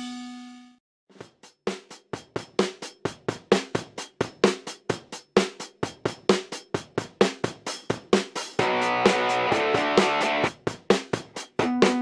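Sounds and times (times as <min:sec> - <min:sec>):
music with fast drum beat: 0:01.1 - 0:12.0.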